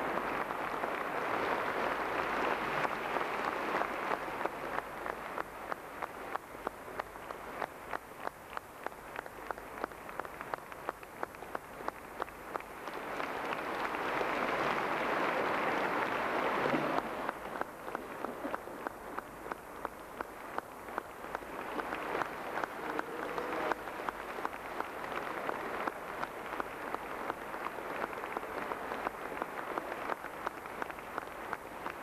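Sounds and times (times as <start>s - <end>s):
audience applause: 0.0s - 32.0s
rhythmic clapping in unison: 0.0s - 32.0s.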